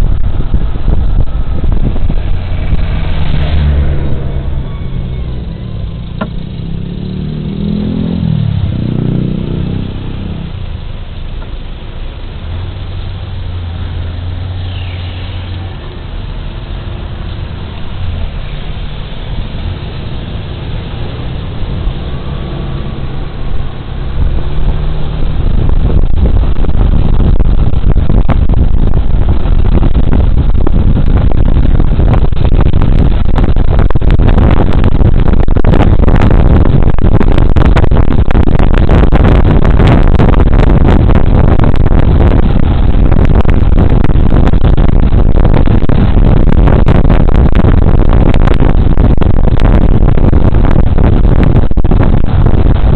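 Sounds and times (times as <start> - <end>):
wind rush on microphone: 0.0 - 52.9.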